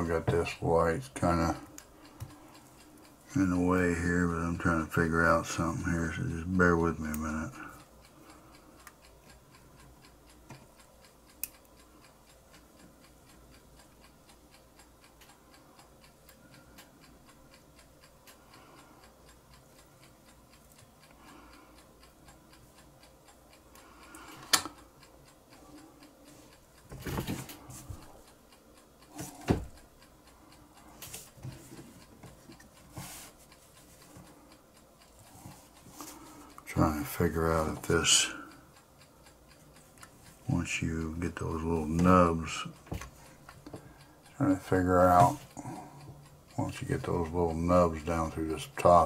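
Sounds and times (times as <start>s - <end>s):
clock ticking: 0.0s - 49.0s.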